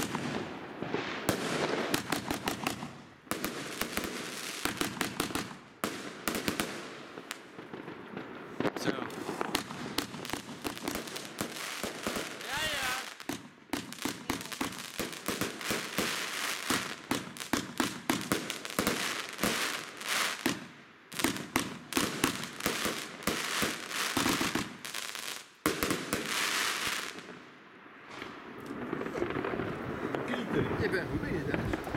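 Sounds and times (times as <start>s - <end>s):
fireworks volley crackling: 0.0s - 31.9s.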